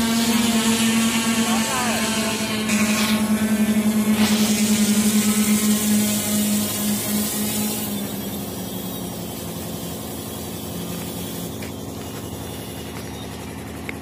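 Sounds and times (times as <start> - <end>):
drone rotors whirring down: 0.0 - 14.0.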